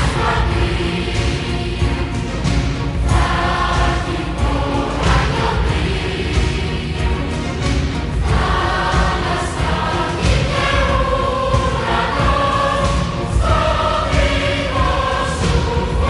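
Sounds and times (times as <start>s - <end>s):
choir singing: 0.0s - 16.0s
instrumental accompaniment: 0.0s - 16.0s.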